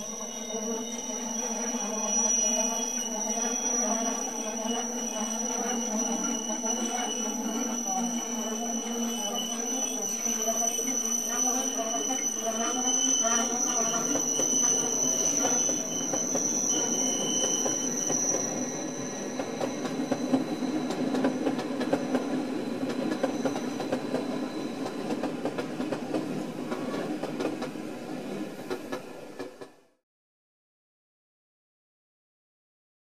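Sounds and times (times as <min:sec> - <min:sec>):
train wheels squealing: 0:00.0 - 0:30.0
train coaches rumbling: 0:03.0 - 0:29.8.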